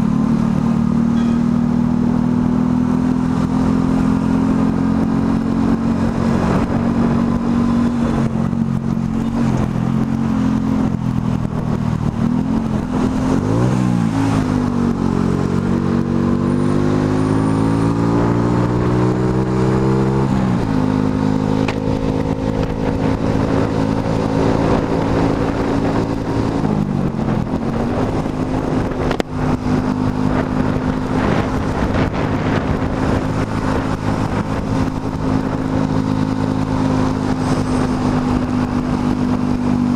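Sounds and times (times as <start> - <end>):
motorcycle engine accelerating: 0.0 - 39.9
wind and road rush: 0.0 - 39.9.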